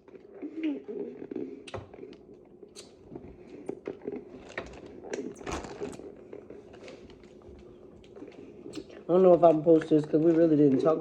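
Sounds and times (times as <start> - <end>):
seafood being chewed: 0.0 - 11.0.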